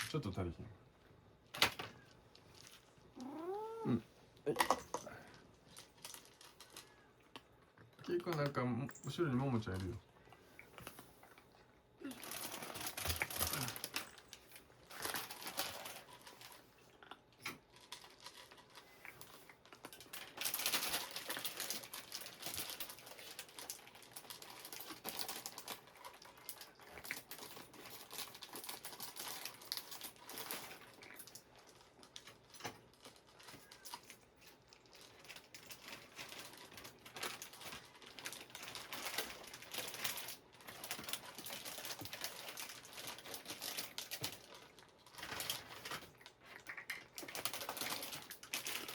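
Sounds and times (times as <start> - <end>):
cats crunching dry kibble: 0.0 - 48.9.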